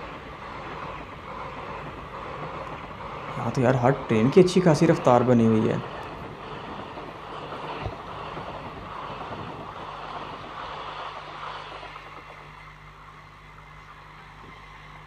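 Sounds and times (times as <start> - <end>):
train coaches rushing past: 0.0 - 15.0.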